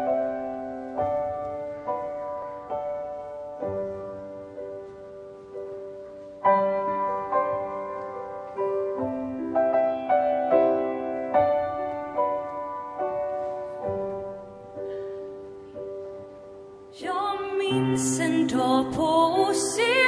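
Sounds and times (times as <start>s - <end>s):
grand piano slow chords: 0.0s - 20.0s.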